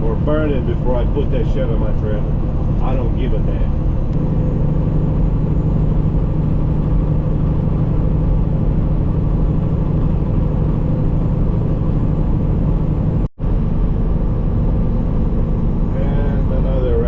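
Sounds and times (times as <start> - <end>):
road noise: 0.0 - 17.0
truck diesel engine droning: 0.0 - 17.0.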